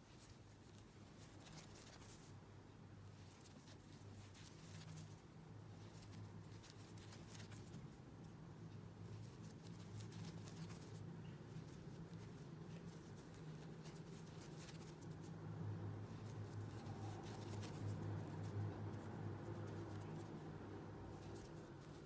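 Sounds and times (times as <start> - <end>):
crochet hook scratching yarn: 0.0 - 2.4, 3.0 - 22.0.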